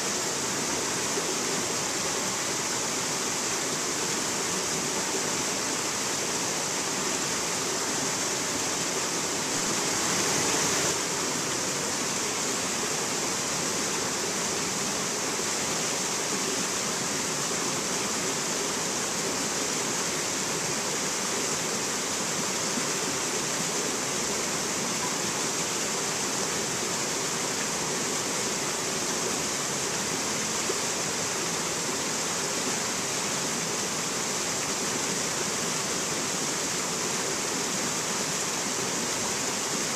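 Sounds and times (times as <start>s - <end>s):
mountain stream rushing over boulders: 0.0s - 39.9s.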